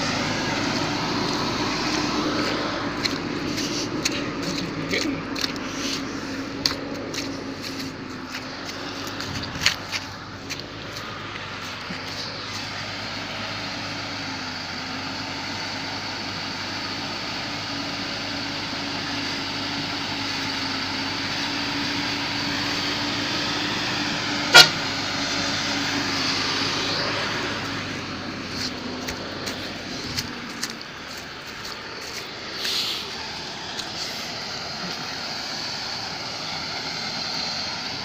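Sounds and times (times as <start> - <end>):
road noise: 0.0 - 38.0
vehicle engine drone: 0.0 - 38.0.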